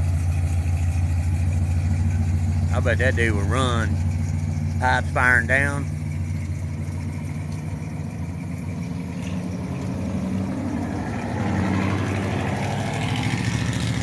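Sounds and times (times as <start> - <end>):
car engines throbbing past: 0.0 - 14.0.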